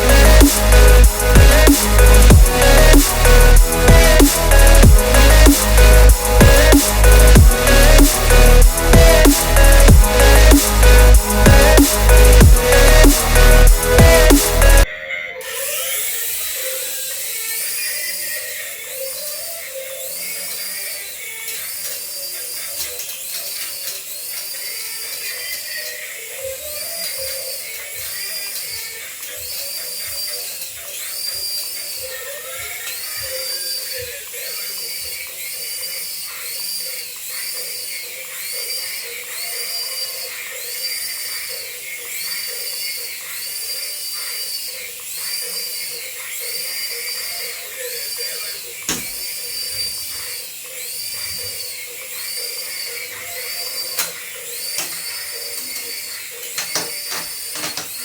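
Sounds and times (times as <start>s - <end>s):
toy high-pitched electronic warble: 0.0s - 58.0s.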